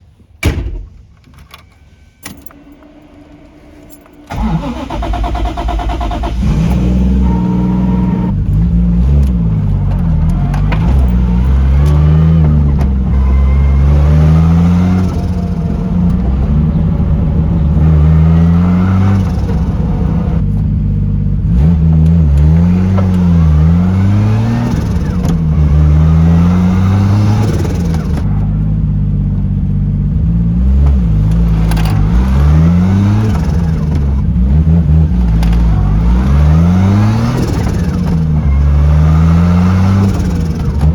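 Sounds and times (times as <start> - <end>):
car engine revving: 2.6 - 40.9.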